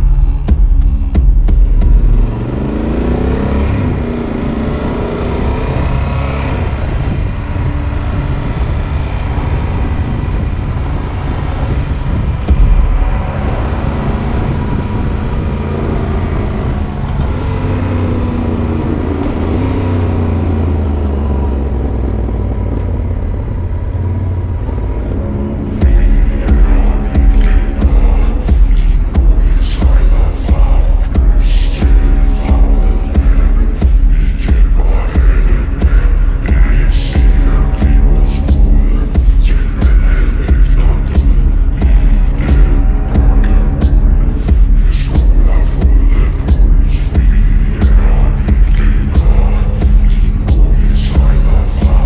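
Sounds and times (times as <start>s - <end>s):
motorcycle engine rumbling: 0.0s - 52.0s.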